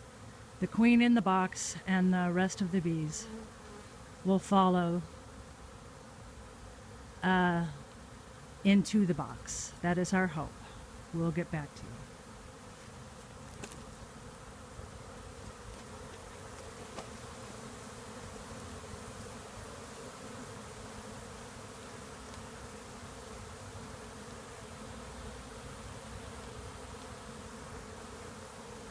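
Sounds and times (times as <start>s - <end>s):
bee swarm buzzing: 0.0s - 28.9s.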